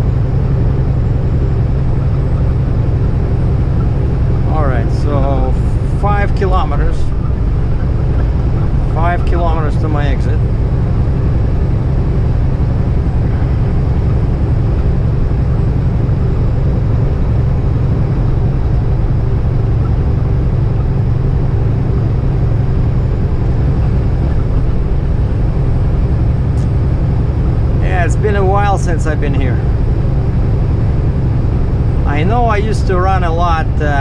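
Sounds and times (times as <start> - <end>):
truck engine and road drone: 0.0 - 34.0.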